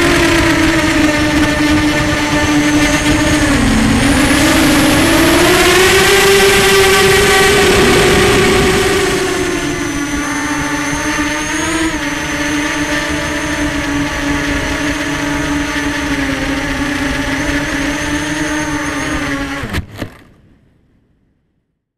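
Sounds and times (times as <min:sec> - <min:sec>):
quadcopter motors whining: 0:00.0 - 0:19.9.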